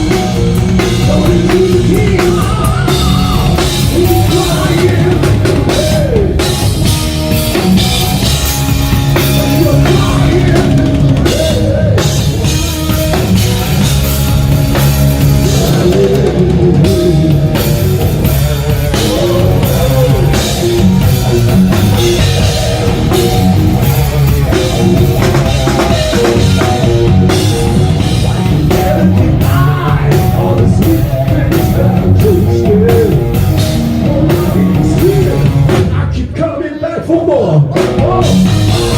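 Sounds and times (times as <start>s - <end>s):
electric guitar: 0.0s - 36.4s, 37.5s - 38.9s
drum kit: 0.0s - 36.5s, 37.2s - 38.9s
live hard rock band: 0.0s - 38.9s.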